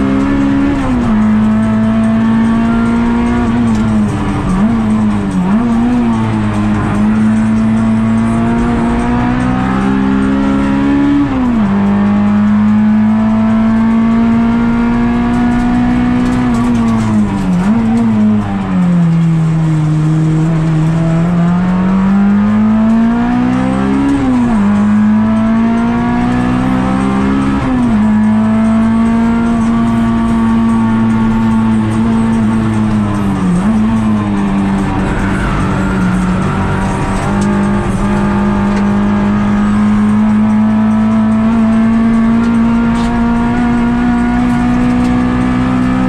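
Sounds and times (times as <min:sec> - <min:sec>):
car engine at high revs: 0:00.0 - 0:46.0.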